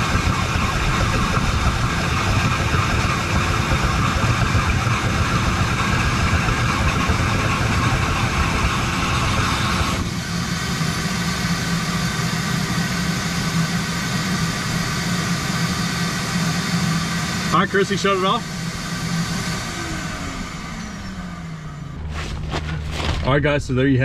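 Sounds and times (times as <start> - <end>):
vacuum running: 0.0 - 24.0.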